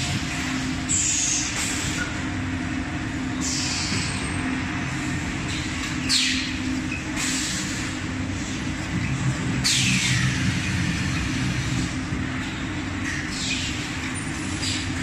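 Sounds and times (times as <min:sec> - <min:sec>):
machine mechanical hum: 0:00.0 - 0:15.0.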